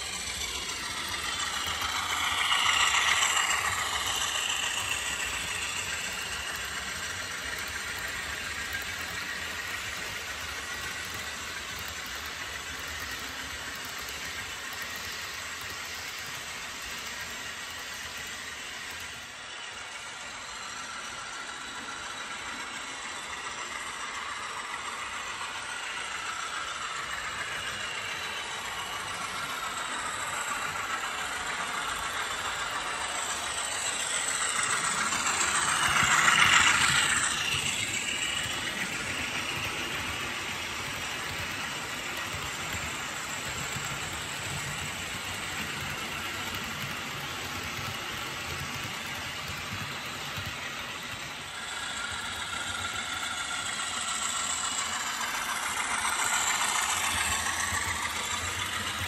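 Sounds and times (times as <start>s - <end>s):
model train wheels rattling on rails: 0.0s - 59.0s.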